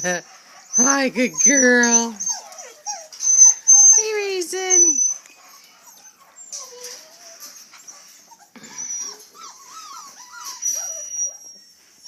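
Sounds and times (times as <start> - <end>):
puppies whining: 0.0 - 12.0.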